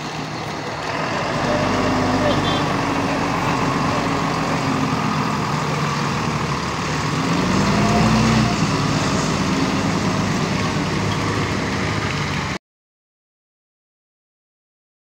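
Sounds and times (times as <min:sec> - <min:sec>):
truck diesel engine running: 0:00.0 - 0:12.6.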